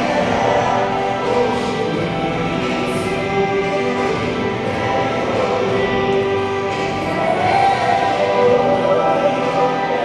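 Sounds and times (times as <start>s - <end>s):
music with long held notes: 0.0s - 10.0s.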